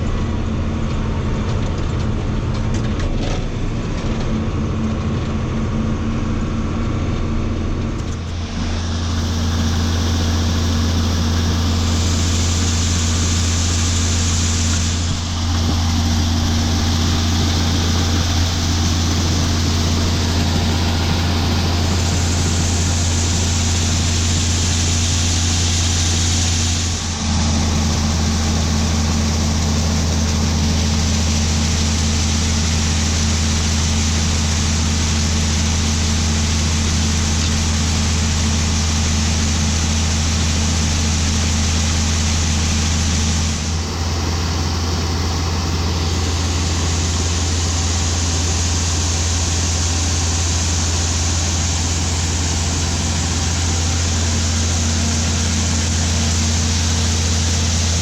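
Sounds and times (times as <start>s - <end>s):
diesel farm machinery droning: 0.0s - 58.0s.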